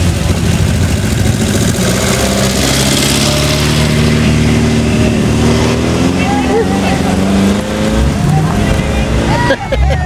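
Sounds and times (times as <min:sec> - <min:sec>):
old car engines driving past: 0:00.0 - 0:10.0.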